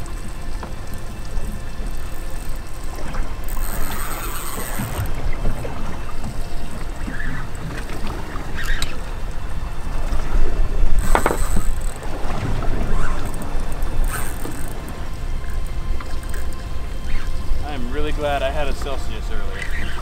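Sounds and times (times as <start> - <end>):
water slapping boat hull: 0.0 - 20.0.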